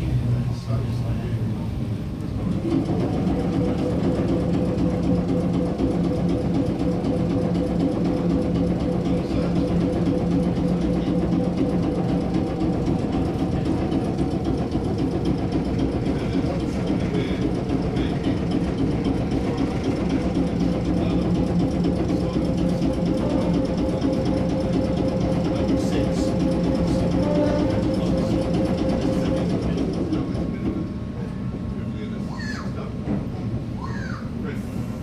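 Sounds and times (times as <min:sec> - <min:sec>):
electric train hum and rumble: 0:00.0 - 0:35.0.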